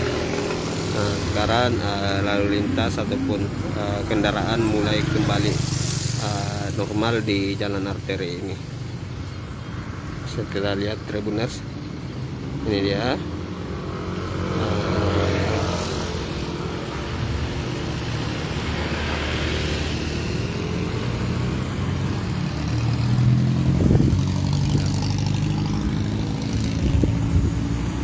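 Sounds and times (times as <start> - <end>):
cars and motorbikes passing: 0.0 - 28.0.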